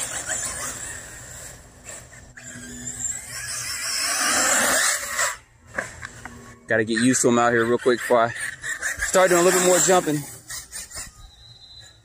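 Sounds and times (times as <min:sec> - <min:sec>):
toy car motor and tyres rushing: 0:00.0 - 0:12.0.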